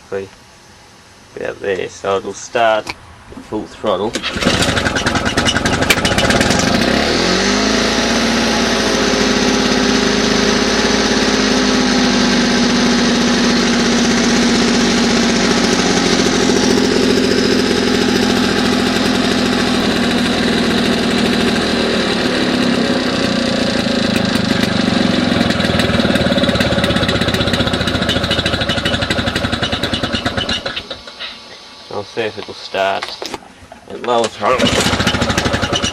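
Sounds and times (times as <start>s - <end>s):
lawn mower engine running: 4.1s - 31.3s, 34.2s - 35.9s.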